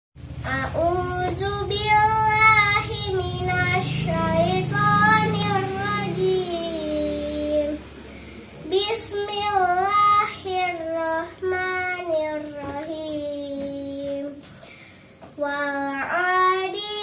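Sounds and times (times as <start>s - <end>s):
steady low hum: 0.2s - 17.0s
girl chanting recitation: 0.4s - 7.9s, 8.6s - 14.4s, 15.4s - 17.0s.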